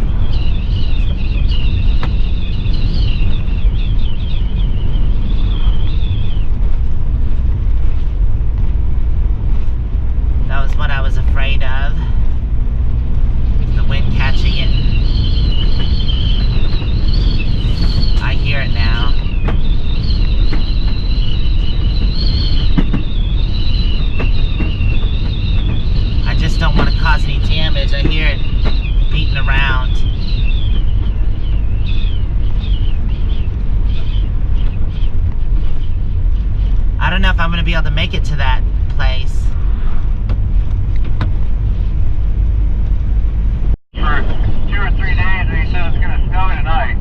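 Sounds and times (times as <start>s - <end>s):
wind buffeting and road noise: 0.0s - 47.0s.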